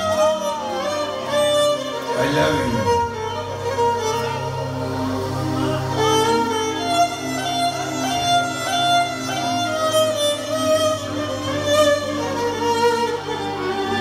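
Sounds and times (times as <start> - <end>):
solo violin melody: 0.0 - 14.0.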